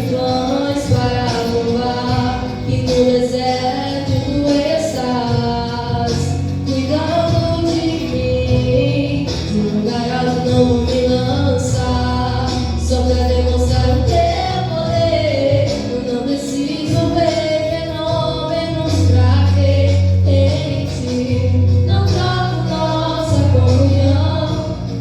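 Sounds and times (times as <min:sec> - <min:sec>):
long held bass notes: 0:00.0 - 0:25.0
women singing gospel song: 0:00.0 - 0:25.0.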